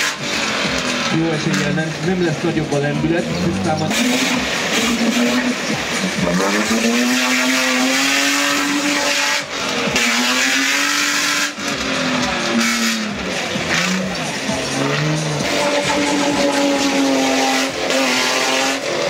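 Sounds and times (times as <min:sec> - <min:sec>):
buggy engine revving hard: 0:00.0 - 0:19.0.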